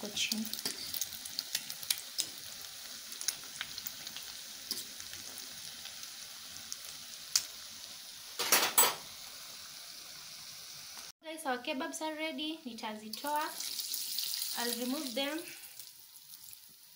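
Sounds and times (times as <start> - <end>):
kebabs deep-frying in oil: 0.0 - 11.1, 11.7 - 16.9.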